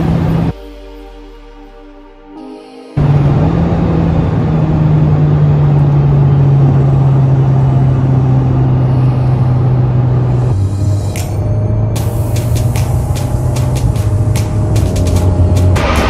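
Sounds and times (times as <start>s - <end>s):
car engine running: 0.0s - 0.5s, 3.0s - 16.0s
road and wind noise: 0.0s - 0.5s, 3.0s - 16.0s.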